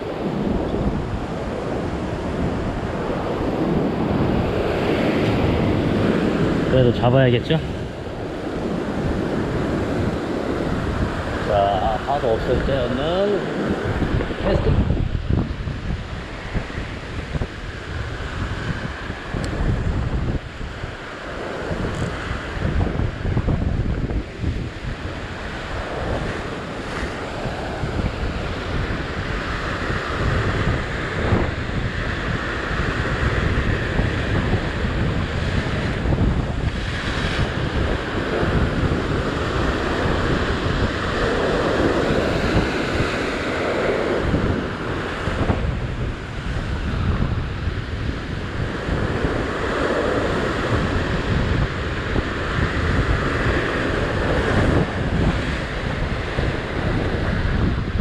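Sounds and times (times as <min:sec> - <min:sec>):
ocean surf breaking on rocks: 0:00.0 - 0:58.0
wind buffeting microphone: 0:00.0 - 0:58.0.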